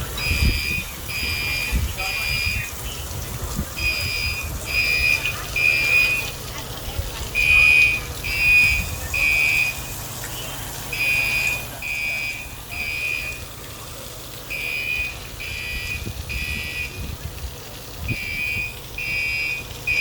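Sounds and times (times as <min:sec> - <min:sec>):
fire alarm beeping: 0:00.0 - 0:13.6, 0:14.5 - 0:17.2, 0:18.0 - 0:20.0.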